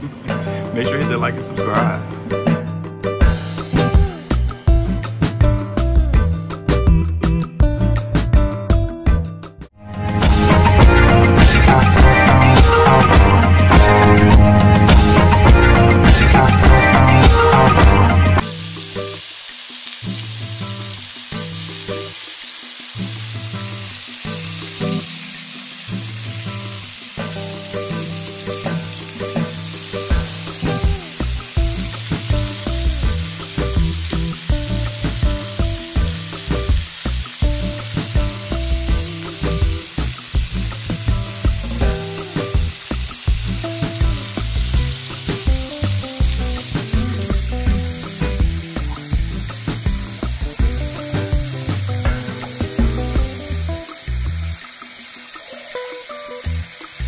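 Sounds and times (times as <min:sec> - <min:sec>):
background music with a beat: 0:00.0 - 0:18.8, 0:27.2 - 0:55.4
meat sizzling in oil: 0:10.2 - 0:57.0.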